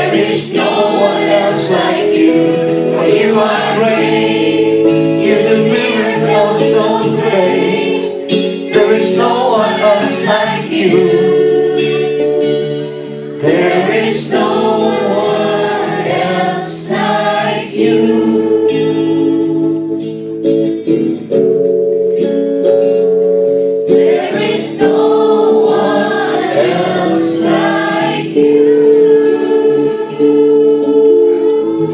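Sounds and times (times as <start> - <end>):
choir singing gospel song: 0.0 - 19.9, 23.8 - 31.9
sustained instrumental backing: 0.0 - 31.9.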